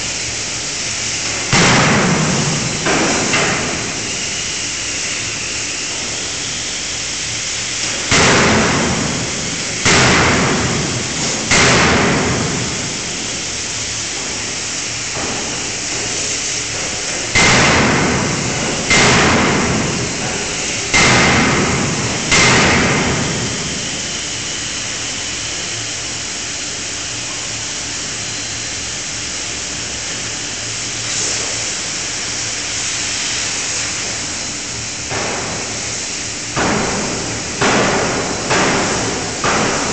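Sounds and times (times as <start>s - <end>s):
steady background noise: 0.0s - 39.9s.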